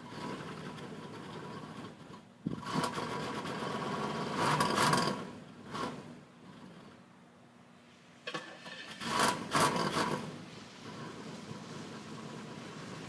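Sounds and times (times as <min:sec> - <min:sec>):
car engine cranking: 0:00.0 - 0:06.9, 0:08.3 - 0:13.0.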